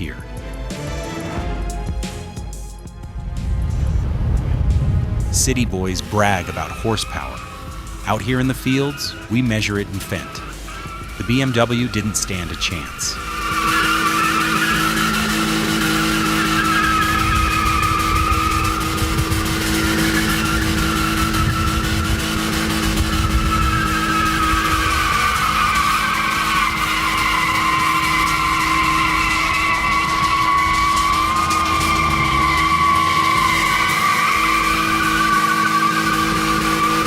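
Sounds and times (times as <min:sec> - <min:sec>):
car engine running: 0:00.0 - 0:37.0
car tyres squealing: 0:03.4 - 0:37.0.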